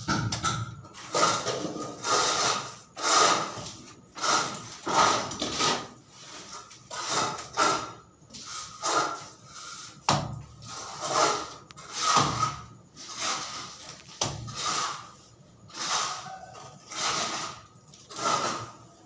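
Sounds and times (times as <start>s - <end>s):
hand tool scraping: 0.9s - 19.0s.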